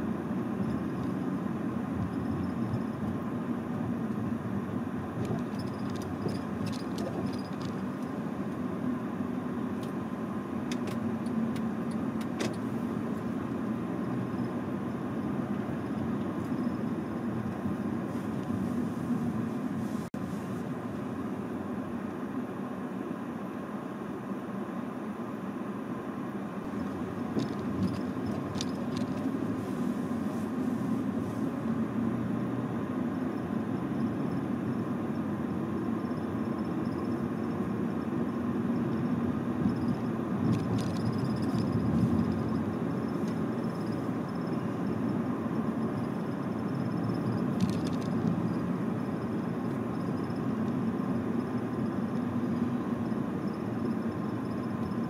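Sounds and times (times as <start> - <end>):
low rumble of road vehicles: 0.0 - 55.0.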